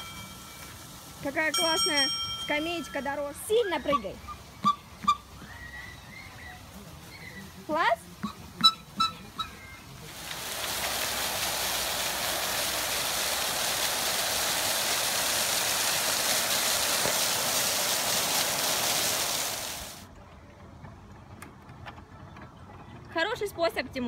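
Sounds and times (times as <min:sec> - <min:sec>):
fountain water splashing: 0:00.0 - 0:20.1.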